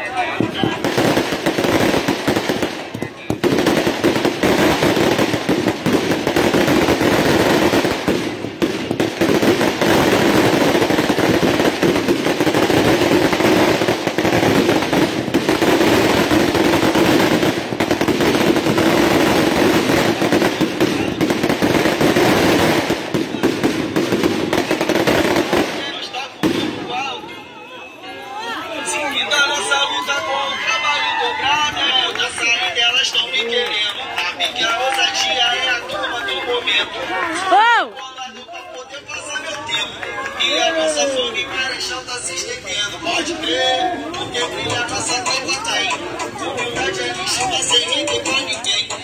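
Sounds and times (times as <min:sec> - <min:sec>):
firecrackers crackling: 0:00.0 - 0:27.5, 0:28.8 - 0:49.0.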